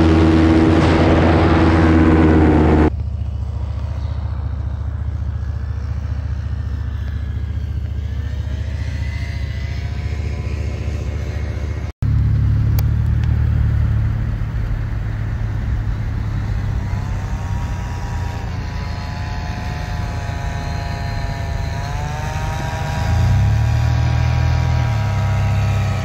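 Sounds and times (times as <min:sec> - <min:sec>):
car noise: 0:00.0 - 0:26.0
low rumble of wind: 0:00.0 - 0:26.0
paramotor engine droning: 0:00.0 - 0:26.0.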